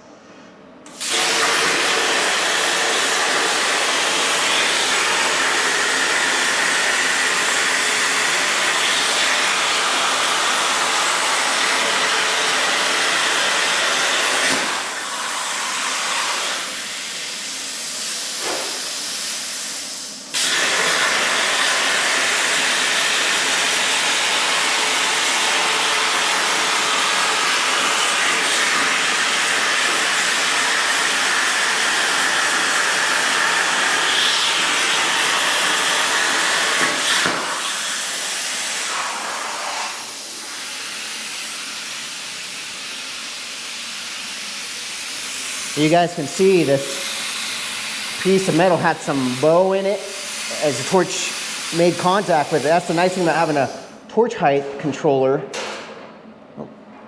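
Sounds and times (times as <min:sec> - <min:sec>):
plasma torch hissing: 0:00.9 - 0:54.0.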